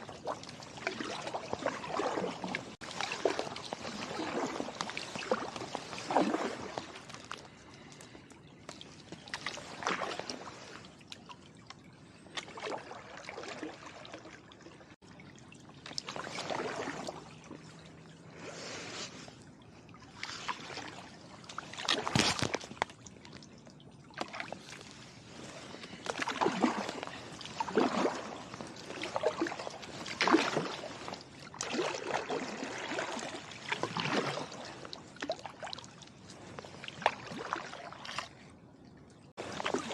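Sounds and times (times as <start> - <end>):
paddle strokes in water: 0.0 - 39.9.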